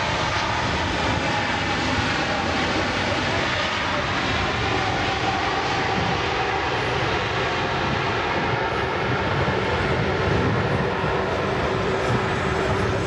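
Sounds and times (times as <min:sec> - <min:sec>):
jet engines running with whine: 0:00.0 - 0:13.0.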